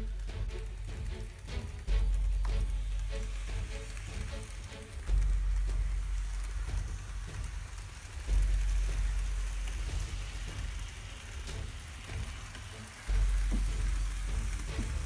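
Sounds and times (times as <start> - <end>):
model train motors and wheels: 0.0 - 15.0.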